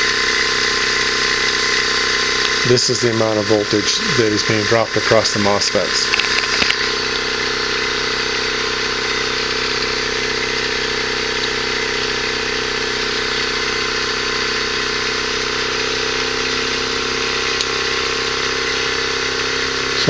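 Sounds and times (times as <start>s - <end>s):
high-pitched electronic whine: 0.0s - 20.0s.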